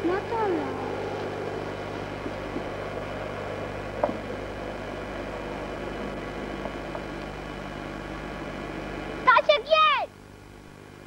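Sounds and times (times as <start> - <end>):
camcorder mechanism hum and hiss: 0.2 - 11.0.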